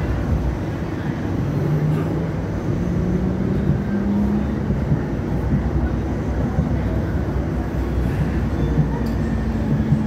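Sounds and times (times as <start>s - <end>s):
low rumble of rail car: 0.0s - 10.0s.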